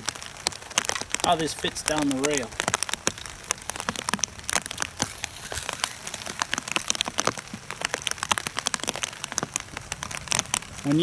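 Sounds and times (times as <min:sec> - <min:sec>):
heavy rain: 0:00.0 - 0:11.0
raindrops ticking close by: 0:00.0 - 0:11.0.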